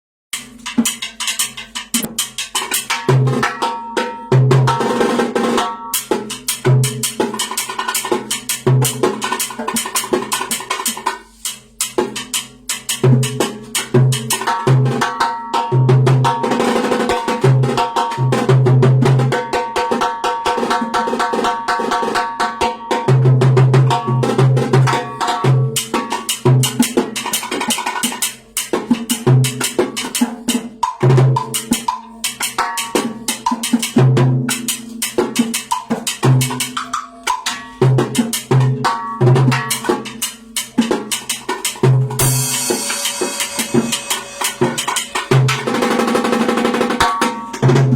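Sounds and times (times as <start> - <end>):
fast drum groove: 0.4 - 47.9.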